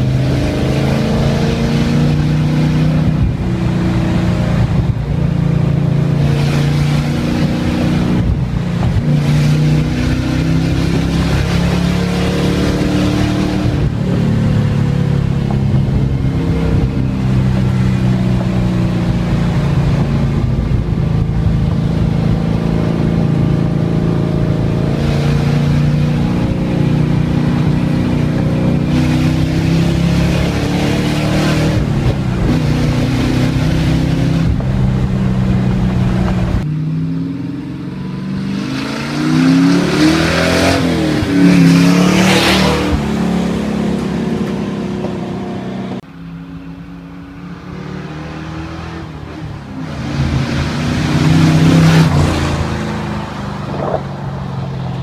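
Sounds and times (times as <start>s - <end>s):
vee eight engine running and revving: 0.0s - 55.0s.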